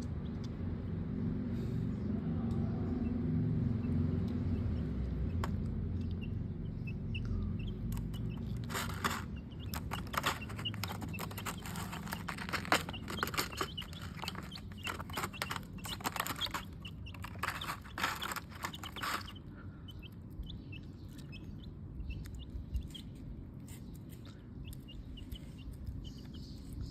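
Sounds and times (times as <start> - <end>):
chick peeps: 2.2 - 26.9
chicks pecking: 2.4 - 26.9.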